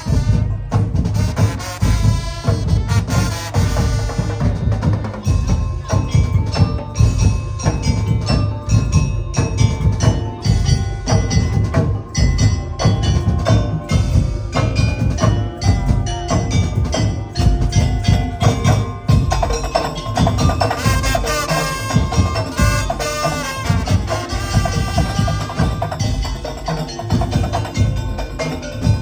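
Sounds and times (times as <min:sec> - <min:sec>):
heavy busy drumming: 0:00.0 - 0:29.0
struck pitched bars ringing: 0:05.1 - 0:29.0.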